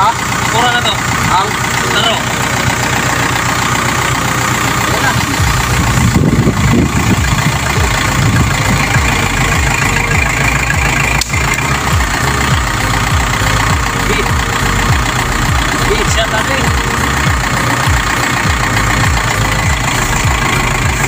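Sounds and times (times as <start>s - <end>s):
tractor engine rumbling: 0.0s - 21.0s.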